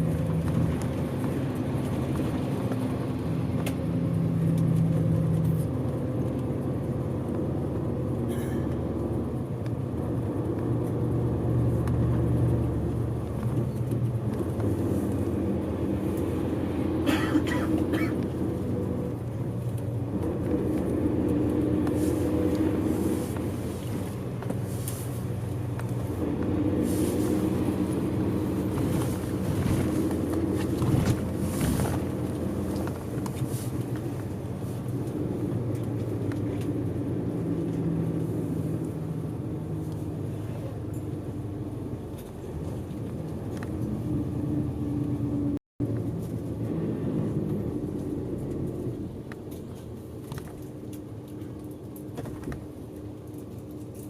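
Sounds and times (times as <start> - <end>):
bus engine hum: 0.0 - 54.0.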